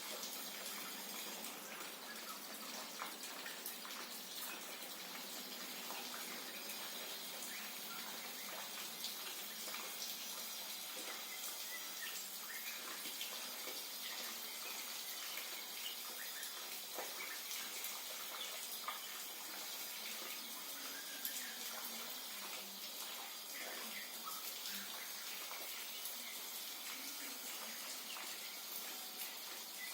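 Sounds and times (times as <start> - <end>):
drips and ticks: 0.0 - 29.9
steady rain falling: 0.0 - 29.9.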